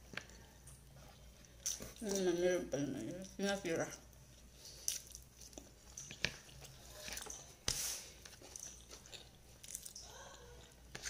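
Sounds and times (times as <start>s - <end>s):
person chewing: 0.1s - 2.2s, 4.2s - 11.0s.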